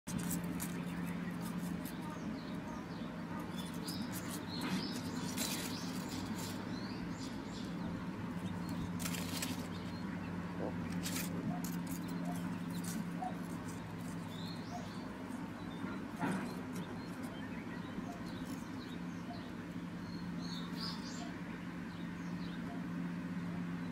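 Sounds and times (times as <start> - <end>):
small birds chirping: 0.1 - 23.9
steady low hum: 0.1 - 23.9.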